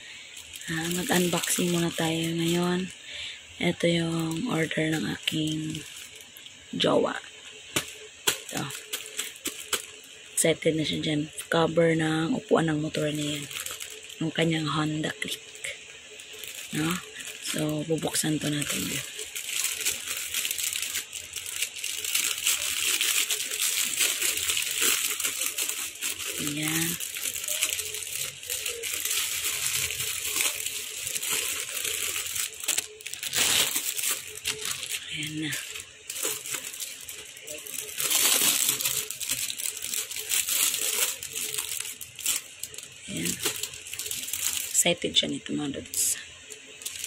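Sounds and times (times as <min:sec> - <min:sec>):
plastic pouch crinkling: 0:00.0 - 0:03.1, 0:03.7 - 0:11.1, 0:12.6 - 0:47.0.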